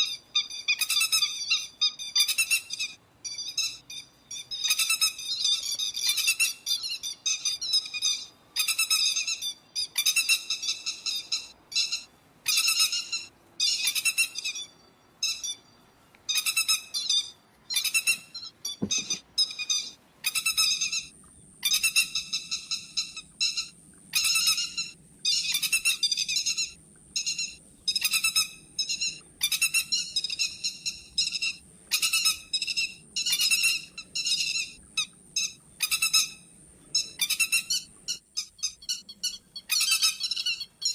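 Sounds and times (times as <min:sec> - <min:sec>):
plover calls: 0:00.0 - 0:40.9.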